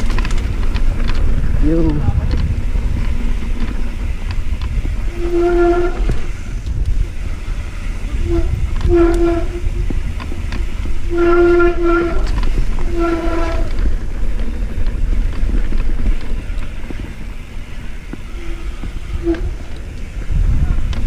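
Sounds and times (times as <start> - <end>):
tyres rumbling on dirt: 0.0 - 21.0
wind on microphone: 0.0 - 21.0
bike disc brakes honking: 2.4 - 21.0.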